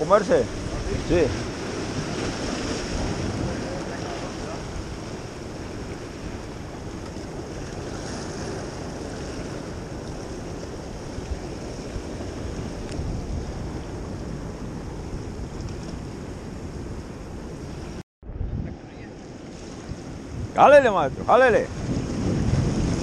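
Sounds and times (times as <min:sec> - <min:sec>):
surf washing over rocks: 0:00.0 - 0:18.0, 0:18.8 - 0:23.0
wind buffeting the microphone: 0:00.0 - 0:23.0.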